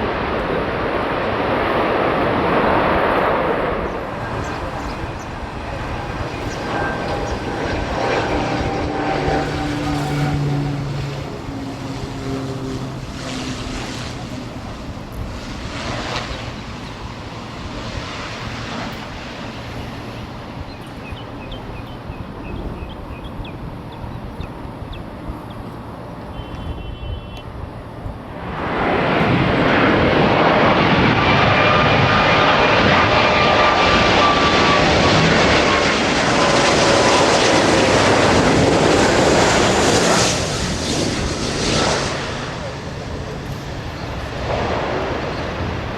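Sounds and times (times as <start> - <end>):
jet passing close: 0.0 - 25.6, 27.5 - 45.9
jet engines whining and rumbling: 0.0 - 45.9.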